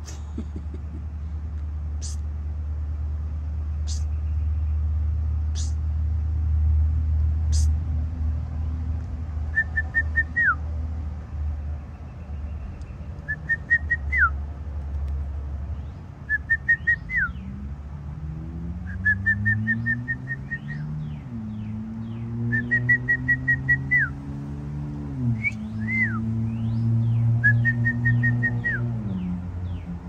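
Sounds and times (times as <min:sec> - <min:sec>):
low engine-like hum: 0:00.0 - 0:30.0.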